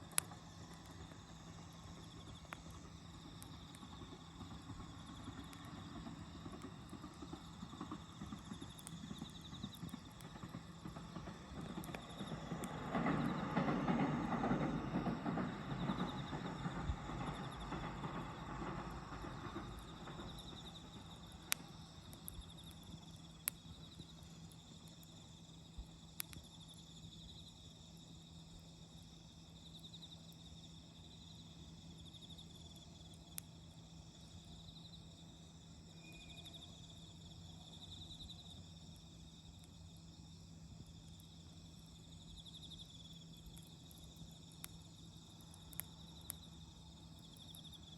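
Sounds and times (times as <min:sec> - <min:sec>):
campfire popping: 0:00.0 - 0:47.9
crickets trilling: 0:00.0 - 0:47.9.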